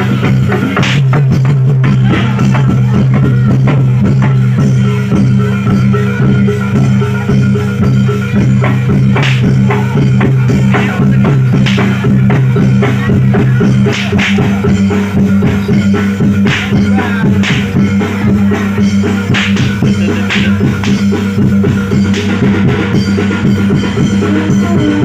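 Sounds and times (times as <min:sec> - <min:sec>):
fast drumming: 0:00.0 - 0:25.0
sustained low tones: 0:00.0 - 0:25.0.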